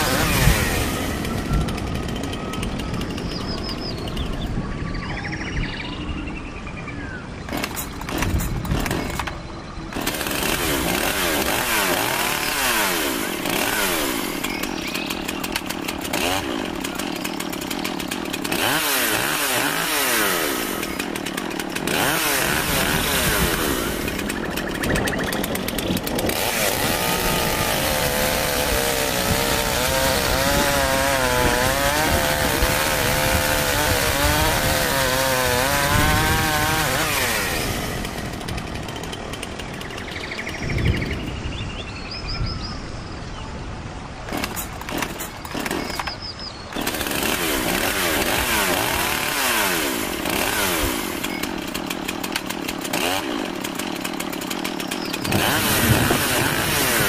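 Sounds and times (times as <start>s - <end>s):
chainsaw engine revving: 0.0s - 4.5s, 7.5s - 41.2s, 44.2s - 57.0s.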